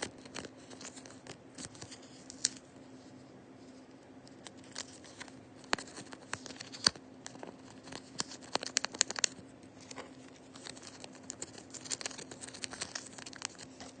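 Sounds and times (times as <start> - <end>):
faint steady hum: 0.0 - 14.0
paper crinkling: 0.0 - 14.0.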